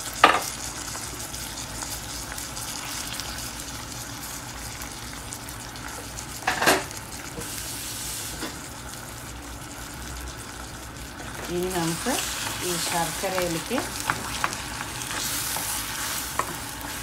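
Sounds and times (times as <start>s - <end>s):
syrup bubbling and sizzling: 0.0s - 17.0s.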